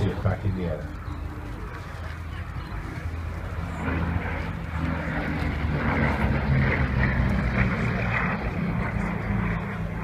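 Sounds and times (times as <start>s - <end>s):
aircraft engine flying by: 0.0s - 10.0s.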